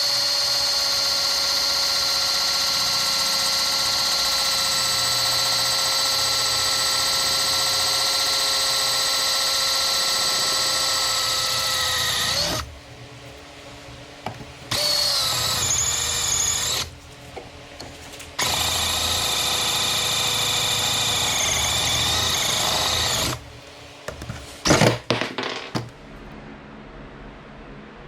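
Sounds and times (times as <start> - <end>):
power tool motor whining: 0.0 - 12.7, 14.2 - 23.4, 24.1 - 25.9.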